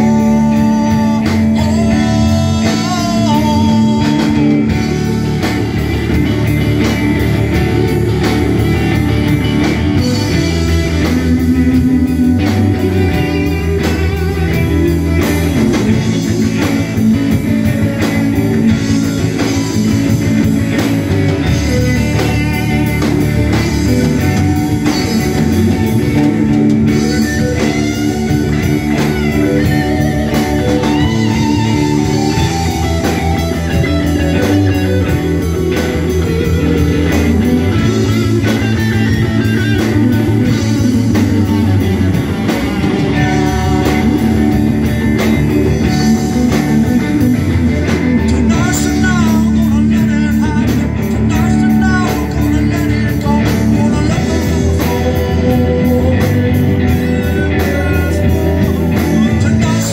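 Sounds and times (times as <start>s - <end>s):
lead guitar bent notes: 0.0s - 59.9s
live rock band playing: 0.0s - 59.9s.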